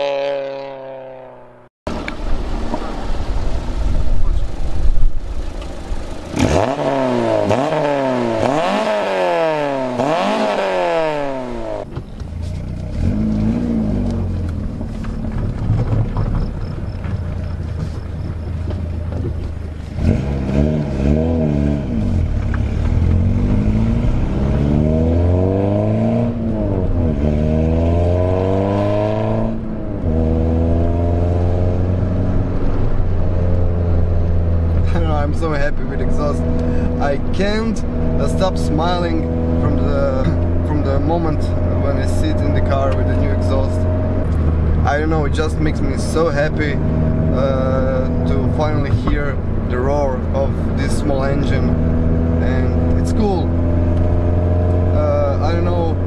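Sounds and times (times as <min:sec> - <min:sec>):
car engine accelerating: 0:00.0 - 0:56.0
low exhaust drone: 0:00.0 - 0:56.0.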